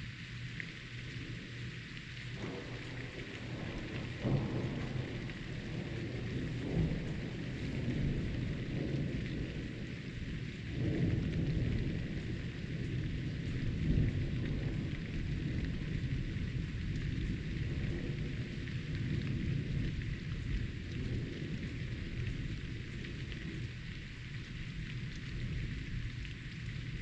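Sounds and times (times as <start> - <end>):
steady rain falling: 0.0 - 27.0
low thunder rumbling: 2.3 - 27.0.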